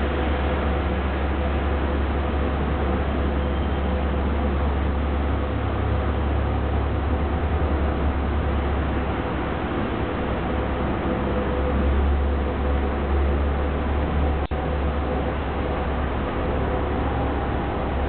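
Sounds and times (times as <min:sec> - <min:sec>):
bus engine idling: 0:00.0 - 0:18.0
faint steady hum: 0:00.0 - 0:18.0.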